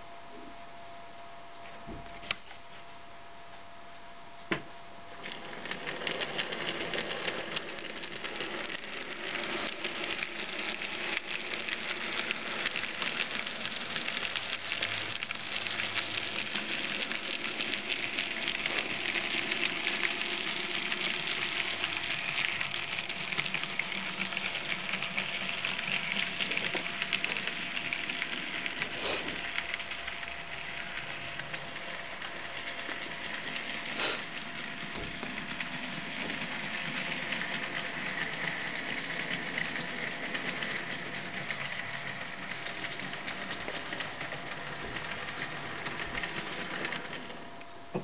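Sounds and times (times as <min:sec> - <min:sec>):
faint steady hum: 0:00.0 - 0:48.0
model train wheels rattling on track: 0:05.1 - 0:48.0.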